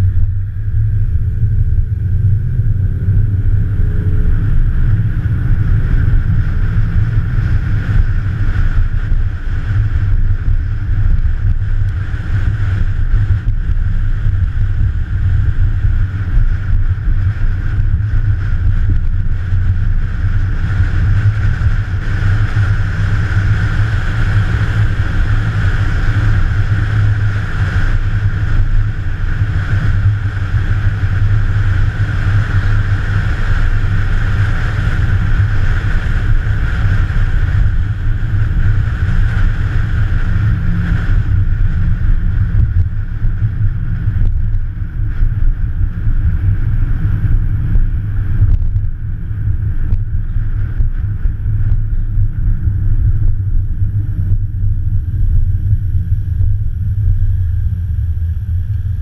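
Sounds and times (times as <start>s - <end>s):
car engines rumbling: 0.0s - 59.0s.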